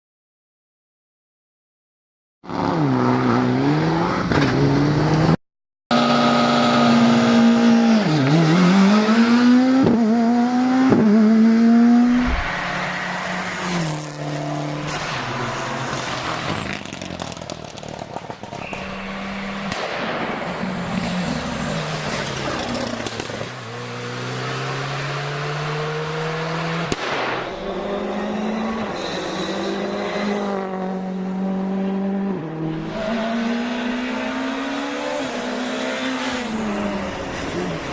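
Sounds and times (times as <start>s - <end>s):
rally car engine revving: 2.5s - 37.9s.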